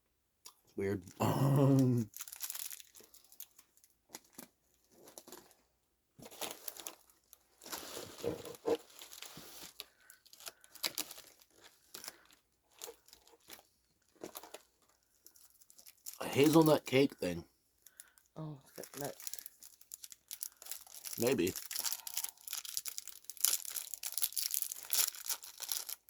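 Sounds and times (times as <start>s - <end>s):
plastic wrapper crinkling: 2.1s - 5.6s, 6.2s - 26.0s.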